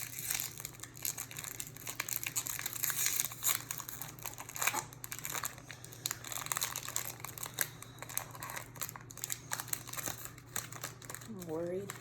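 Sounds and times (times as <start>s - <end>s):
plastic wrapping crinkling and tearing: 0.0s - 12.0s.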